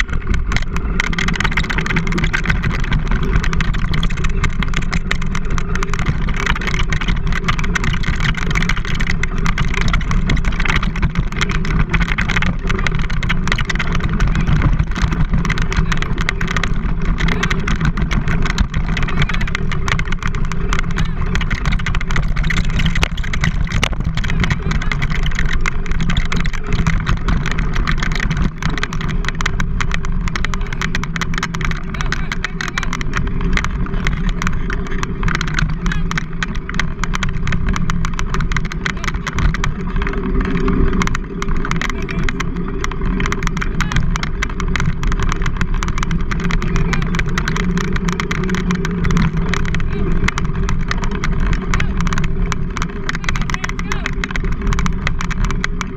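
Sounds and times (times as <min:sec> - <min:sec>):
fine rattling clicks: 0:00.0 - 0:55.9
wheels rolling over dirt: 0:00.0 - 0:55.9
wind buffeting microphone: 0:00.0 - 0:55.9.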